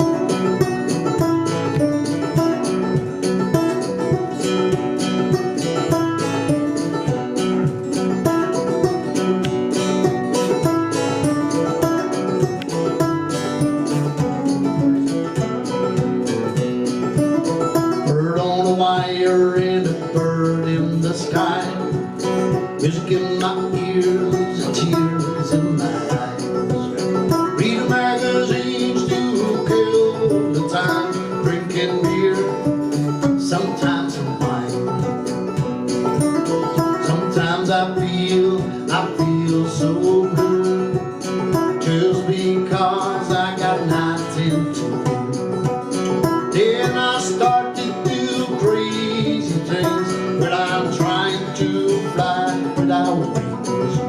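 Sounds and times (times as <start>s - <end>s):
country band playing: 0.0s - 54.0s
picked guitar: 0.0s - 54.0s.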